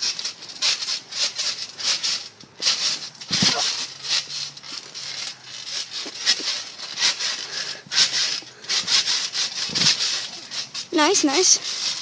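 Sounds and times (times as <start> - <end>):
rhythmic swishing of trampoline bounces: 0.0 - 12.0.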